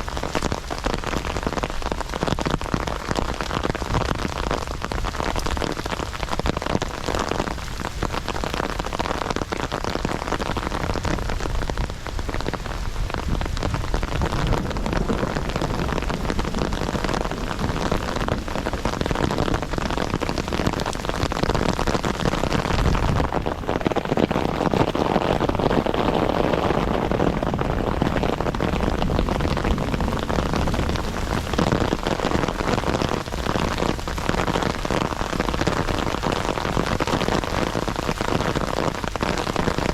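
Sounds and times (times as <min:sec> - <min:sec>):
heavy rain pouring: 0:00.0 - 0:39.9
sharp raindrop hits: 0:00.0 - 0:39.9.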